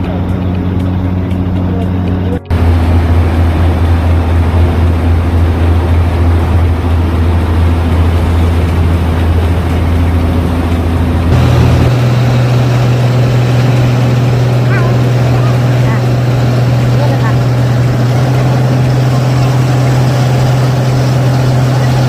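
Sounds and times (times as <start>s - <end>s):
heavy vehicle engine droning: 0.0s - 22.0s.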